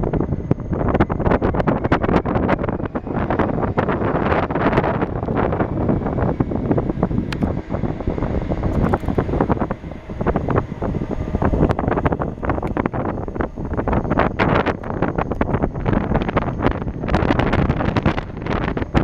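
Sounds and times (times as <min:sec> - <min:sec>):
faint steady tone: 0:00.0 - 0:19.0
low rumble: 0:00.0 - 0:19.0
wind buffeting microphone: 0:00.0 - 0:19.0.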